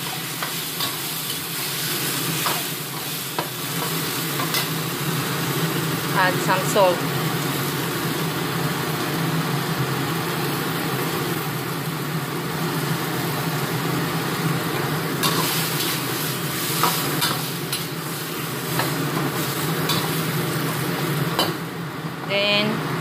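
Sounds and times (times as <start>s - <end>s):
exhaust fan hum: 0.0s - 23.0s
tomatoes sizzling in a wok: 0.0s - 23.0s.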